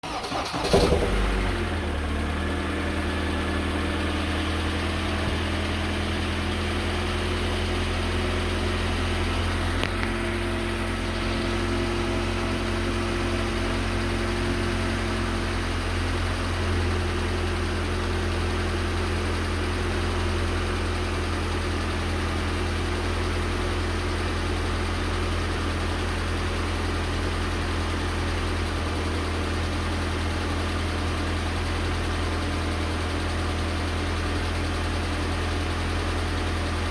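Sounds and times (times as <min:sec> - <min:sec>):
engine knock: 0:00.0 - 0:36.9
petrol engine idling: 0:00.0 - 0:36.9.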